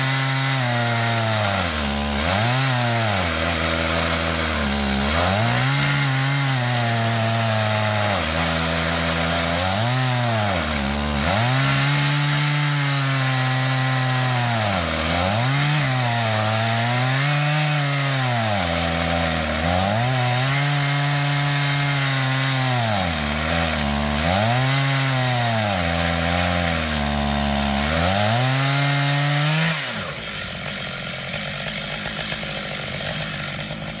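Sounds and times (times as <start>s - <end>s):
chainsaw cutting log: 0.0s - 34.0s.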